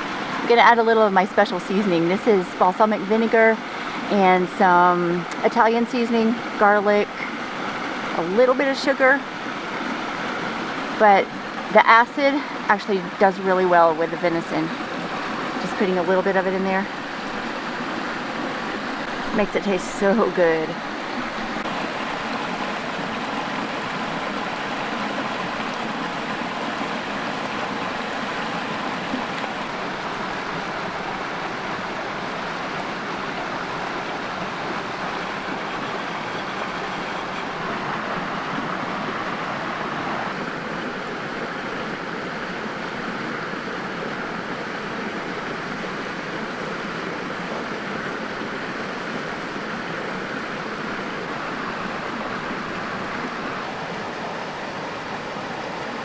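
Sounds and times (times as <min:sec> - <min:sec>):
creek flowing over rocks: 0:00.0 - 0:56.0.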